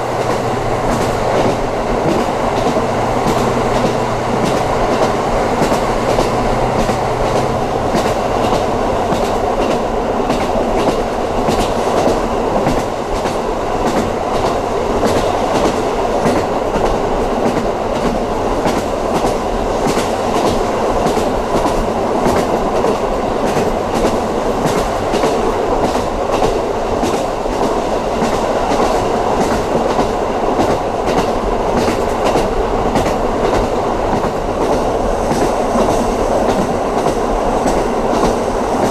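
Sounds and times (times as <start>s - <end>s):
train wheels rumbling on rail: 0.0s - 38.9s
clicks and knocks from track: 0.2s - 38.9s.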